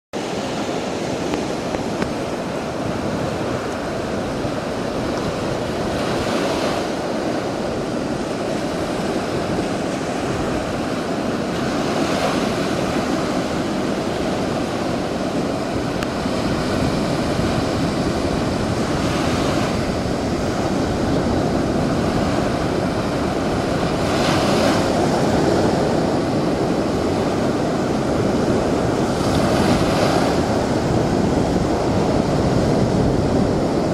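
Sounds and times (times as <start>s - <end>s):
waves breaking on beach: 0.2s - 33.9s.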